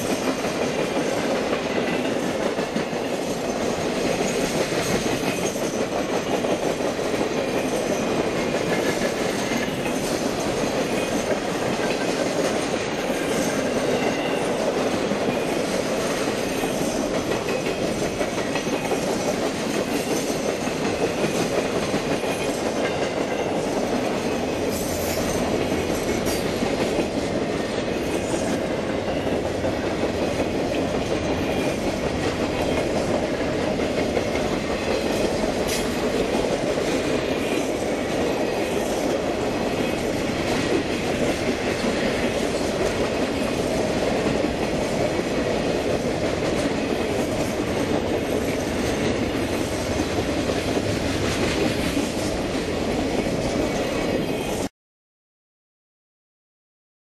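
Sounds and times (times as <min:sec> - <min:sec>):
train wheels rumbling on rails: 0:00.0 - 0:54.7.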